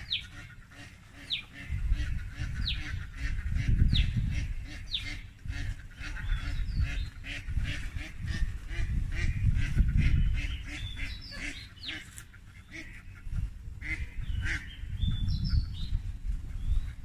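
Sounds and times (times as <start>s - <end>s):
ducks quacking: 0.0s - 15.9s
steady low rumble: 0.0s - 17.0s.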